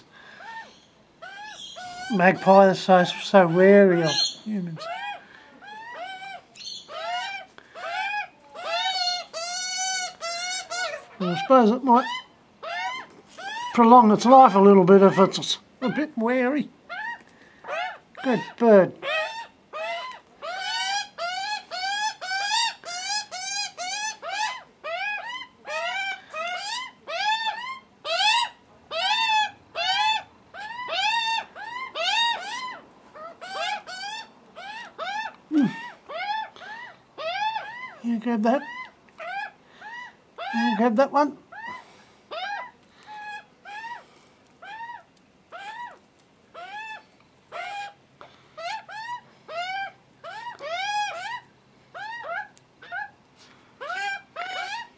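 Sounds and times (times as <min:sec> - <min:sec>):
young magpies screaming calls: 0:00.0 - 0:53.2, 0:53.8 - 0:54.9.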